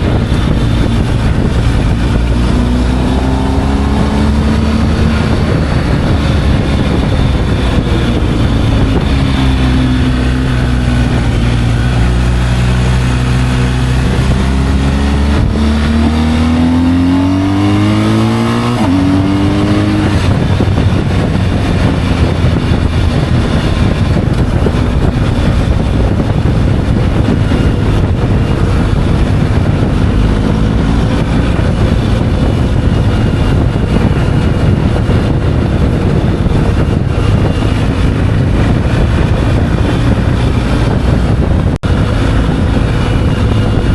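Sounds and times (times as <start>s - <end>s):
motorcycle engine accelerating: 0.0s - 43.9s
wind noise: 0.0s - 43.9s.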